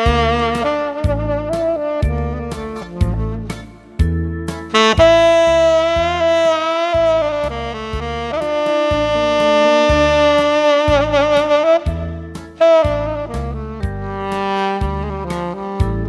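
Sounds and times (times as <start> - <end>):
saxophone slow melody: 0.0 - 4.0, 4.7 - 16.0
backing track with bass line: 0.0 - 16.0.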